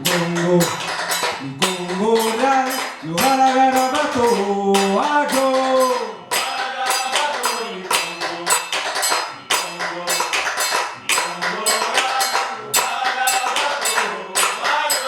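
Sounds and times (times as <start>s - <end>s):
percussion ensemble drumming: 0.0s - 15.0s
voices singing: 0.0s - 15.0s.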